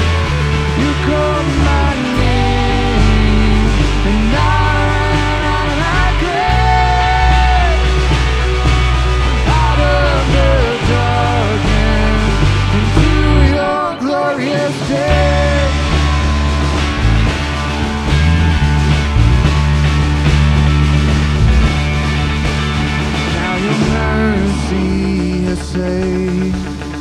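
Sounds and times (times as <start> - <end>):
heavy sustained bass: 0.0 - 13.9, 15.0 - 26.5
rock worship song with singing: 0.0 - 27.0.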